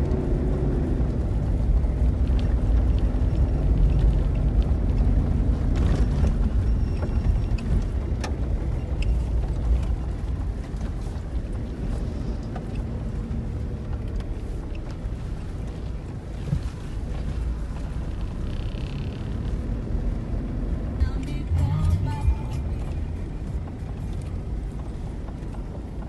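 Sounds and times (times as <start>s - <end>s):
car driving on dirt road: 0.0s - 26.0s.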